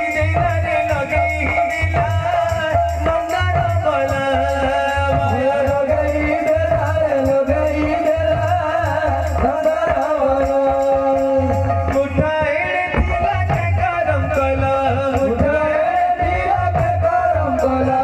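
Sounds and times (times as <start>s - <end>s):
barrel drum beat: 0.0s - 18.0s
person singing devotional melody: 0.0s - 18.0s.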